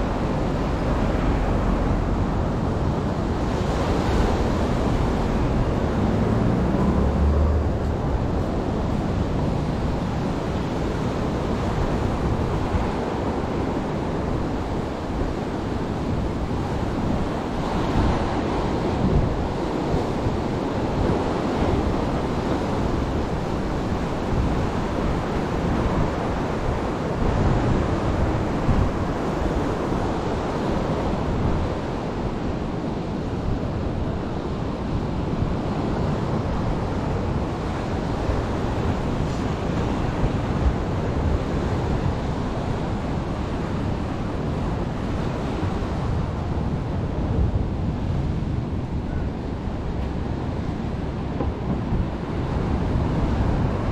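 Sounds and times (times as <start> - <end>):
sea waves washing on shore: 0.0 - 53.9
wind buffeting microphone: 0.0 - 53.9.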